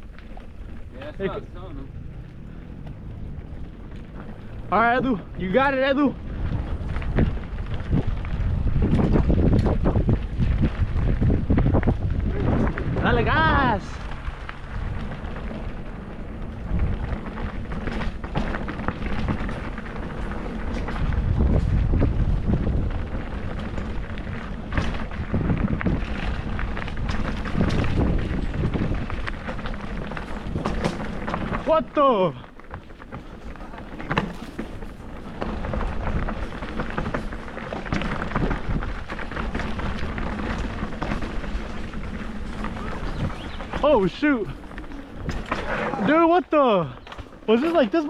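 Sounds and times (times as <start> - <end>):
bike rattling over rocky trail: 0.0 - 48.0
wind rumbling on microphone: 0.0 - 48.0.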